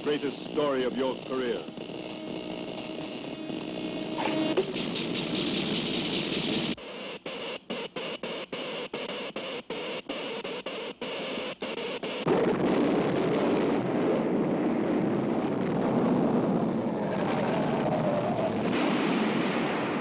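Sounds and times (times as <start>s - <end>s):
crackling buzz: 0.0s - 20.0s.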